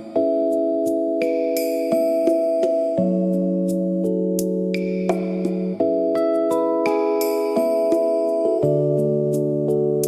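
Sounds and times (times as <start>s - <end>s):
ambient electric piano chords: 0.0s - 10.0s.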